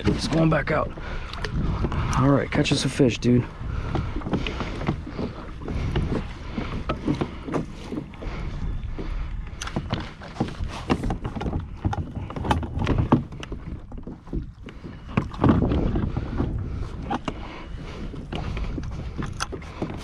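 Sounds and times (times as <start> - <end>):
water lapping against kayak hull: 0.0 - 20.0.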